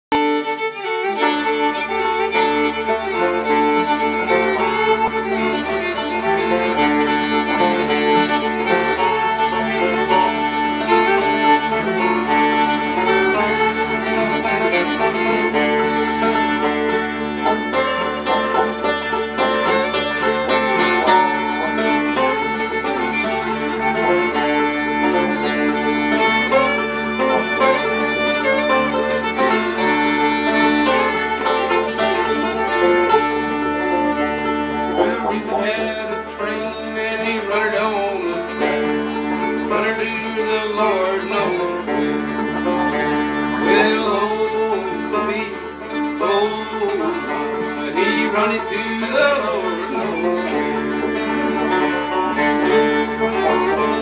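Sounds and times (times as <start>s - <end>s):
fiddle: 0.0s - 54.0s
banjo picking: 0.1s - 54.0s
guitar backing: 0.1s - 54.0s.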